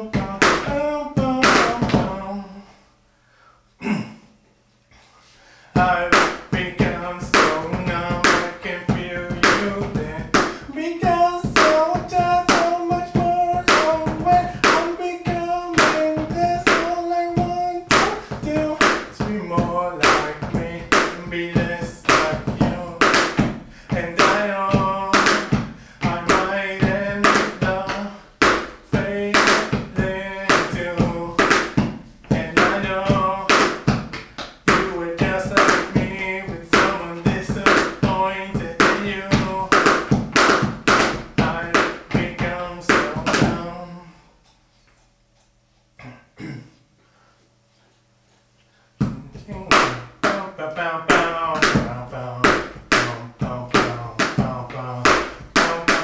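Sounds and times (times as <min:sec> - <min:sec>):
drums played with sticks: 0:00.0 - 0:02.3, 0:05.8 - 0:43.7, 0:49.0 - 0:56.0
man singing rock song: 0:00.0 - 0:02.6, 0:05.7 - 0:33.8, 0:34.7 - 0:39.9, 0:41.4 - 0:44.1, 0:49.2 - 0:56.0.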